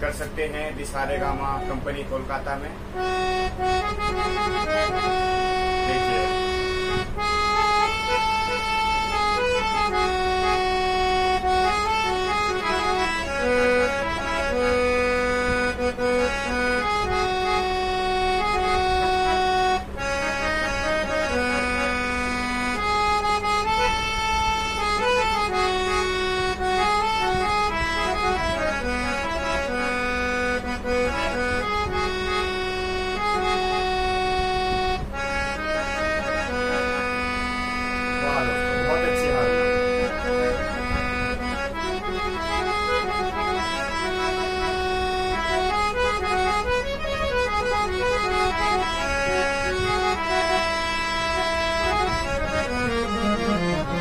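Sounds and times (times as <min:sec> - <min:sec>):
harmonium drone note: 0:00.0 - 0:54.0
harmonium melody of held notes: 0:00.0 - 0:54.0.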